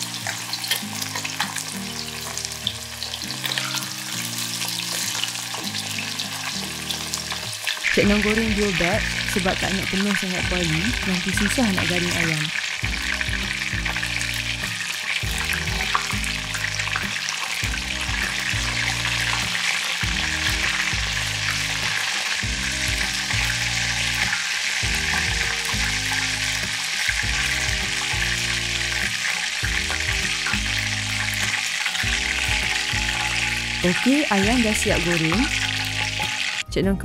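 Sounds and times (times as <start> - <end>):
chicken frying in hot oil: 0.0 - 36.6
background music: 0.0 - 37.0.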